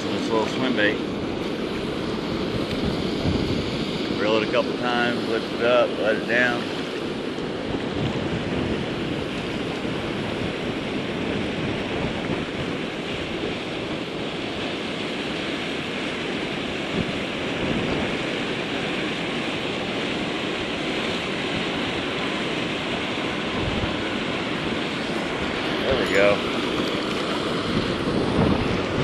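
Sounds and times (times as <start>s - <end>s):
water rushing over spillway: 0.0s - 29.0s
wind on microphone: 0.0s - 29.0s.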